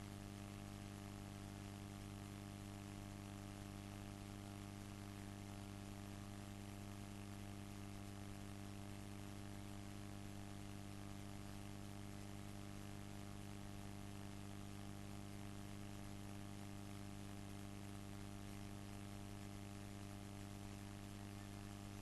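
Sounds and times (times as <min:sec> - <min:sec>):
faint mains hum: 0:00.0 - 0:22.0.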